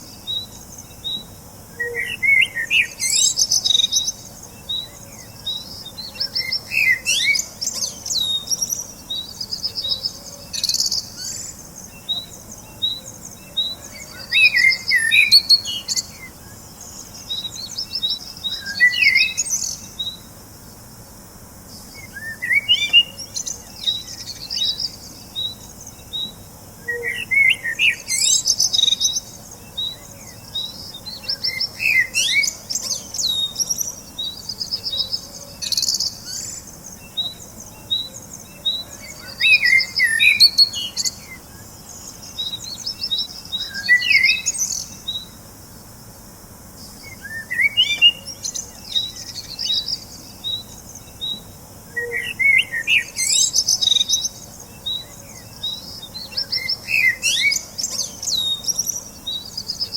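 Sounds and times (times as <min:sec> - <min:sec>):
birds chirping and singing: 0:00.0 - 0:20.3, 0:21.8 - 0:45.4, 0:46.8 - 0:59.9.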